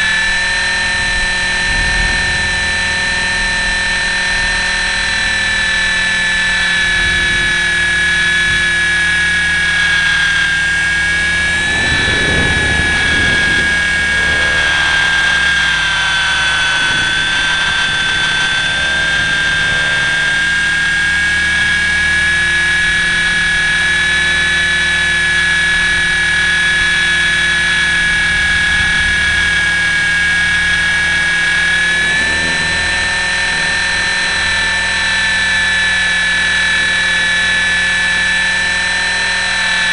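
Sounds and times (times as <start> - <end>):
low rush: 0.0 - 38.1
rc helicopter motor whine: 0.0 - 39.9.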